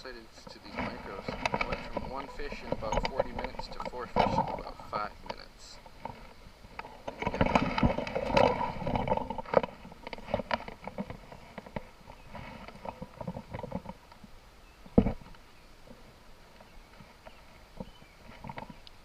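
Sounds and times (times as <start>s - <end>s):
knocks taps and rustling: 0.2s - 14.3s, 16.6s - 19.0s.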